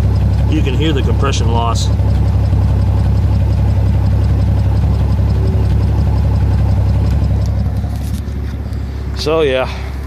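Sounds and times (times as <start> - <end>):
engine exhaust idling: 0.0 - 10.0.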